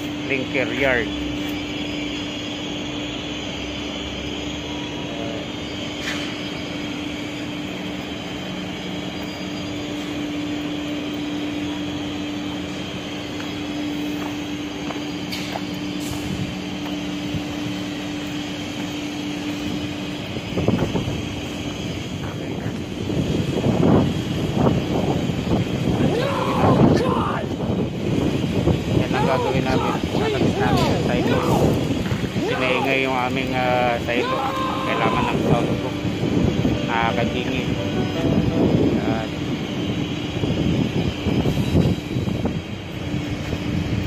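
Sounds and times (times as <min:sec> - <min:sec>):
industrial machinery drone: 0:00.0 - 0:44.0
louder machinery rumble: 0:00.0 - 0:44.0.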